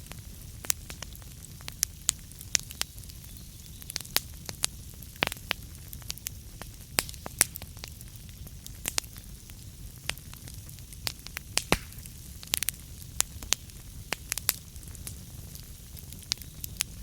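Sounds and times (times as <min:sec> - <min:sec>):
burning wood crackling: 0:00.0 - 0:17.0.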